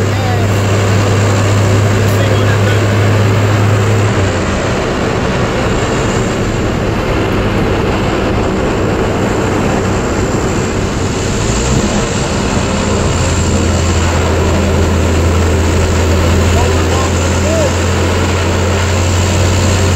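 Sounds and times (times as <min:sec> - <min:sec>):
low hum: 0:00.0 - 0:19.9
pickup truck driving: 0:00.0 - 0:19.9
roof propeller running: 0:00.0 - 0:19.9.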